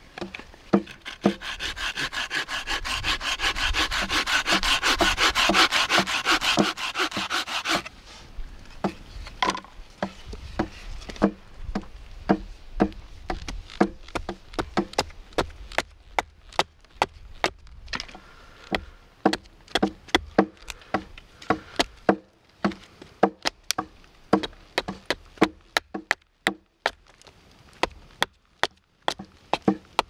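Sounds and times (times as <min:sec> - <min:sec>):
hatchet chopping wood: 0:00.1 - 0:07.9, 0:08.8 - 0:27.0, 0:27.8 - 0:30.0.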